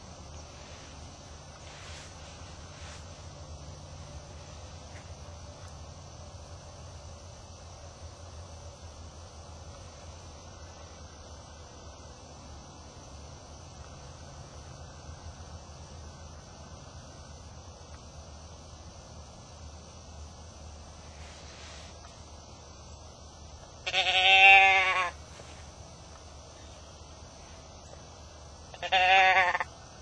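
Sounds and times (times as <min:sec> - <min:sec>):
low steady hum: 0:00.0 - 0:28.8
crickets chirring: 0:00.0 - 0:30.0.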